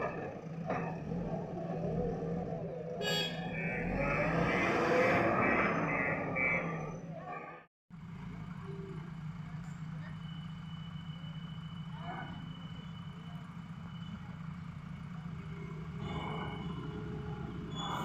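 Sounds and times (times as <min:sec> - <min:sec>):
diesel engines running: 0:00.0 - 0:07.3, 0:07.9 - 0:18.0.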